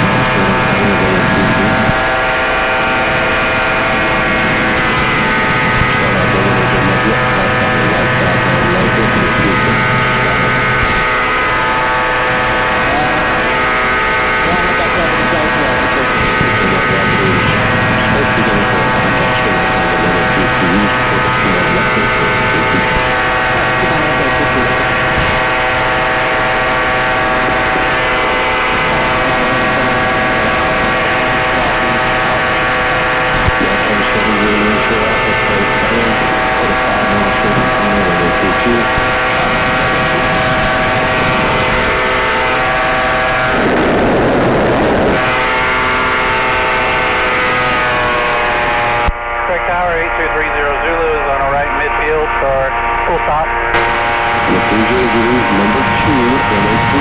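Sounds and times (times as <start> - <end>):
aircraft engine drone: 0.0 - 57.0.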